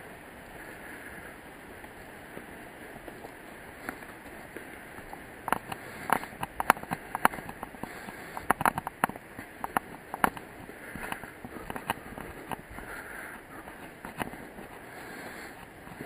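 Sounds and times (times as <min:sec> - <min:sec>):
steady background hiss: 0:00.0 - 0:16.0
footsteps crunching on gravel: 0:01.8 - 0:16.0.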